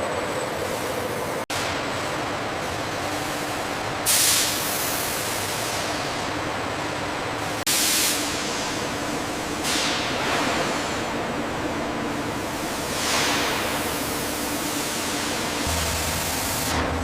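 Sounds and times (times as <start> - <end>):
industrial noise: 0.0 - 17.0.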